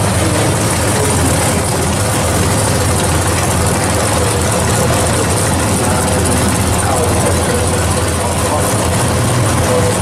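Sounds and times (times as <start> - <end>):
car engines idling: 0.0 - 10.0.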